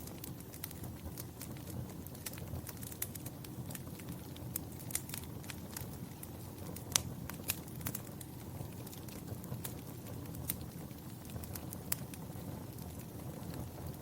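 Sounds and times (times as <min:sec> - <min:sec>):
fire flame rumble: 0:00.0 - 0:14.0
wood fire crackling and popping: 0:00.0 - 0:14.0.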